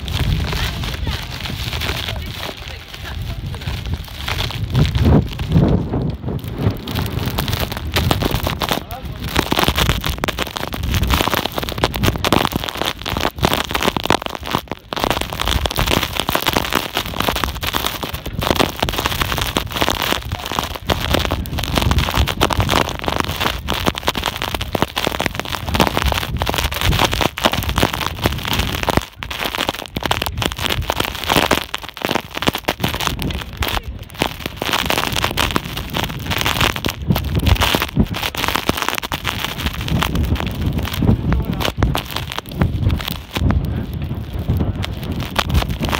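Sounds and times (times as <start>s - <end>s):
blizzard wind buffeting microphone: 0.0s - 45.9s.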